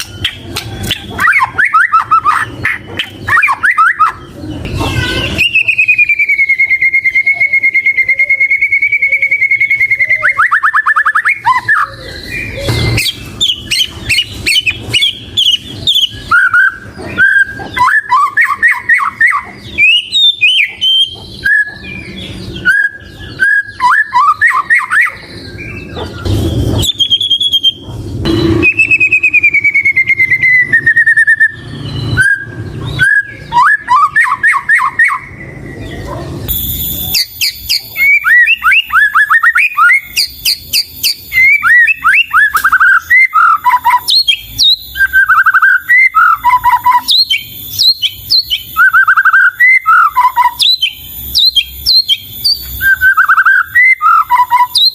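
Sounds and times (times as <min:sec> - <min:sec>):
bird singing whistles: 0:00.0 - 0:04.3, 0:05.0 - 0:54.9.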